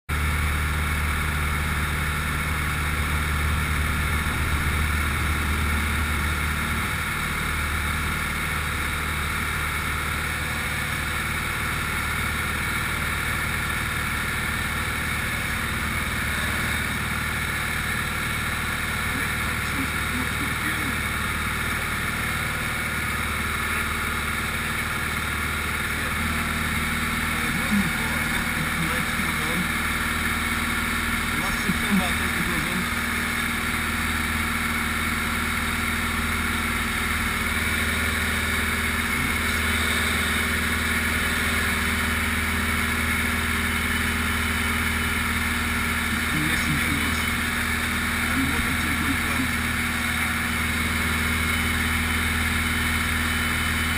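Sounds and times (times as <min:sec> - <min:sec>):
aircraft engine drone: 0:00.1 - 0:53.9.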